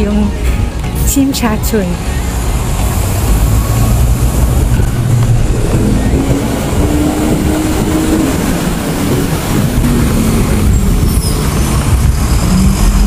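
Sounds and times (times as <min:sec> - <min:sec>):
city road traffic passing: 0:00.0 - 0:13.0
heavy vehicle engine rumble: 0:00.0 - 0:13.0
higher engine tone: 0:01.5 - 0:13.0.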